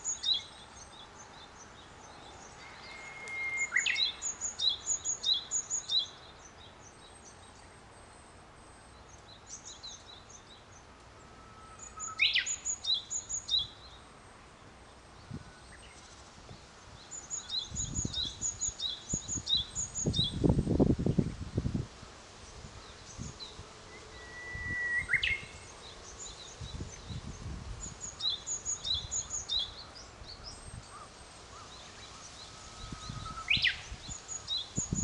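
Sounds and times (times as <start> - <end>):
small birds chirping: 0.0 - 8.2, 8.8 - 21.4, 22.4 - 35.0
steady outdoor hiss: 0.0 - 35.0.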